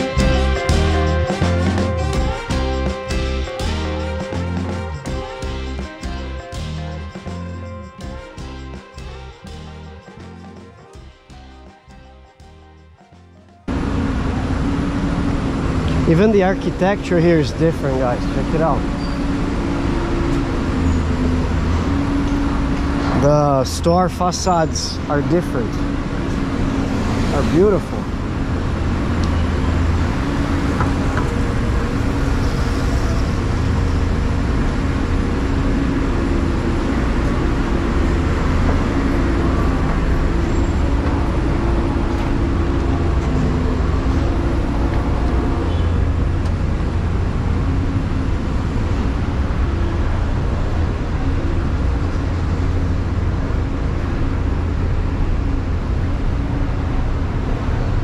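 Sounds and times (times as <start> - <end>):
vehicle engines rumbling: 0.0 - 58.0.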